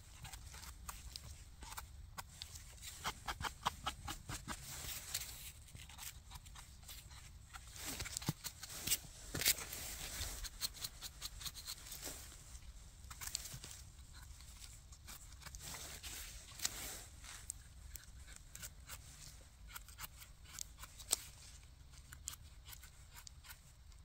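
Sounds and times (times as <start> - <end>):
knife scraping soil off mushrooms: 0.1 - 24.0.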